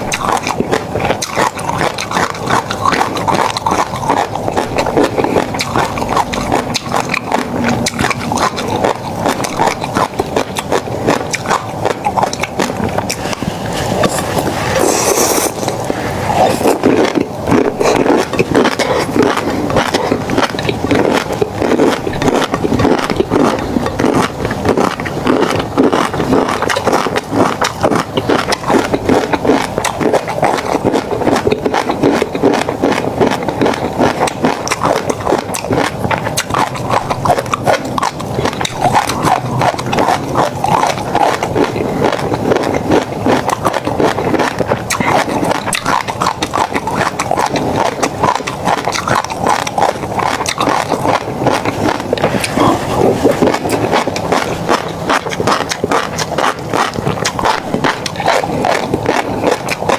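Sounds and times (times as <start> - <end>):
chewing fish roe: 0.0 - 59.9.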